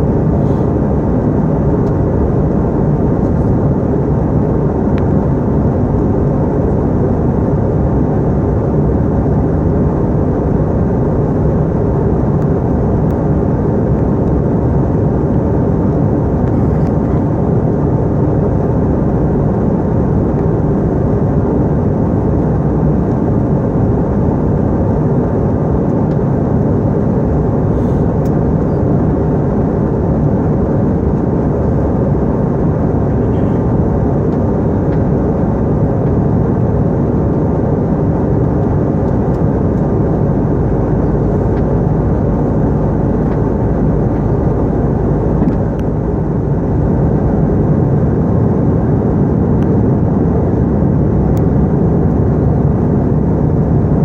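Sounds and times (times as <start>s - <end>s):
airliner cabin engine noise: 0.0s - 54.0s.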